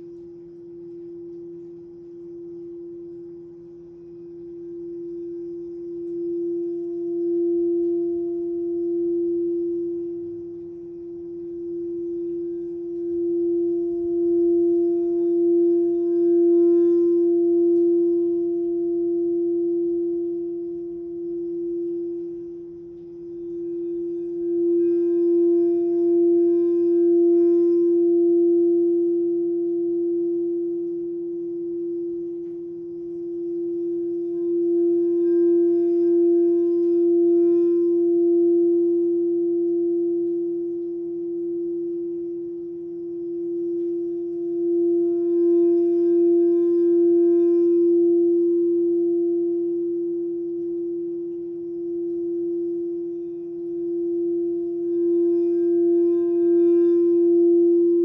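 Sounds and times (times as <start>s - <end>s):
singing bowl sustained note: 0.0s - 58.0s.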